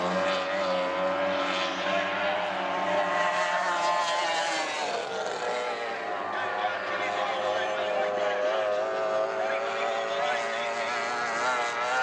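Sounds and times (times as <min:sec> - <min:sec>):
racing outboard engines whining: 0:00.0 - 0:12.0.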